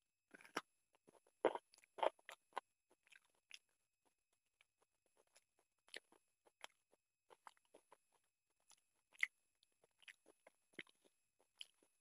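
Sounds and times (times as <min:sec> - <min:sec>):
chewing: 0:00.3 - 0:12.0.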